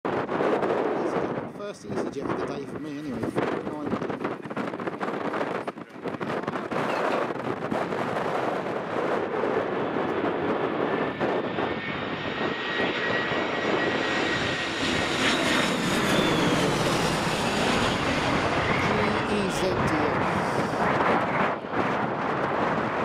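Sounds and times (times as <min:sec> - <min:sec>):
jet airliner passing overhead: 0:00.1 - 0:23.0.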